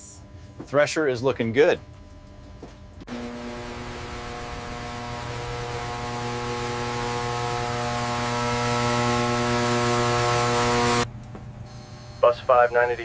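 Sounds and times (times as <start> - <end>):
engine room machinery hum: 1.8 - 13.0.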